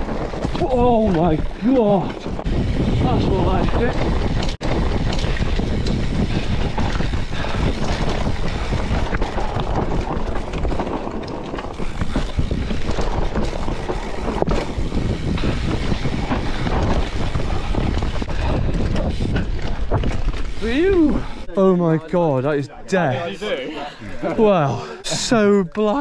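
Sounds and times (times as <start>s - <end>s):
wind buffeting microphone: 0.0s - 21.6s
mountain bike rattling: 0.0s - 26.0s.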